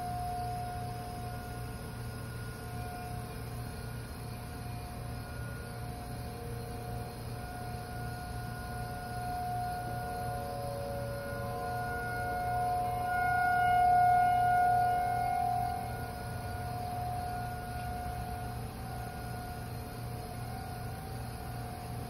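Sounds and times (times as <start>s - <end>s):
lower siren tone: 0.0s - 22.0s
steady low hum: 0.0s - 22.0s
warning siren tone: 0.0s - 22.0s.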